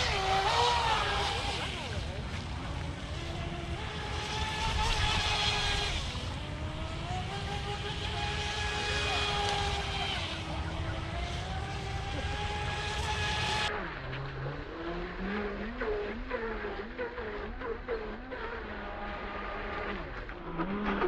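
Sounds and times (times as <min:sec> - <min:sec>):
steady low rumble: 0:00.0 - 0:16.9
toy speedboat motor whine: 0:00.0 - 0:21.0.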